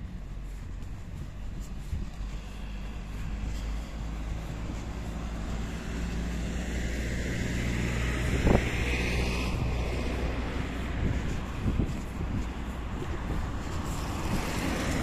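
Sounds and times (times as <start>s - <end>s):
car passing: 0.0s - 15.0s
wind rumble on microphone: 0.0s - 15.0s.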